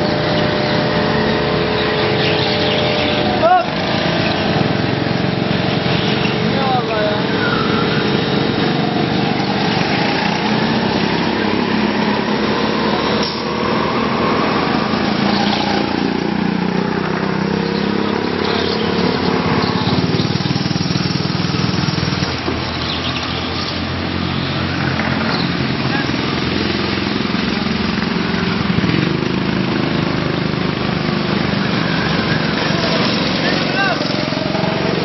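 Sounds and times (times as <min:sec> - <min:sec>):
go-kart engines running: 0:00.0 - 0:35.0.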